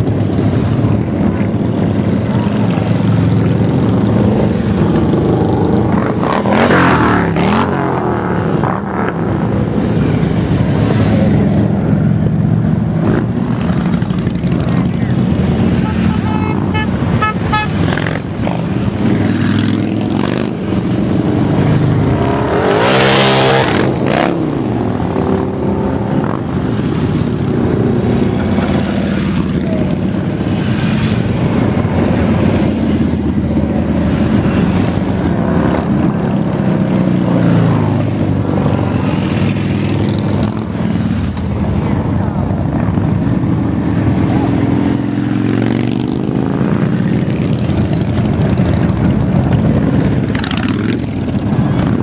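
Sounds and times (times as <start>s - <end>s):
motorcycle passing close: 0.0s - 52.0s
motorcycles engine rumble: 0.0s - 52.0s.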